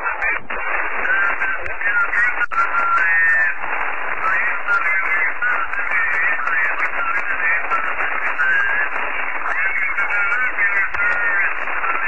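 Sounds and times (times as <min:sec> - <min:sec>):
faint unintelligible voices: 0:00.0 - 0:12.0
radio static hiss: 0:00.0 - 0:12.0.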